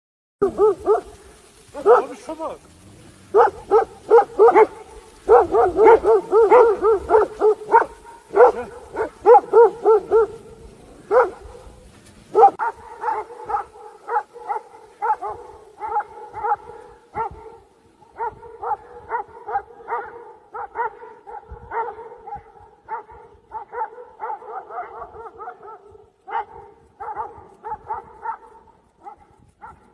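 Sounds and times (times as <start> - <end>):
dogs barking rapidly: 0.4 - 29.9.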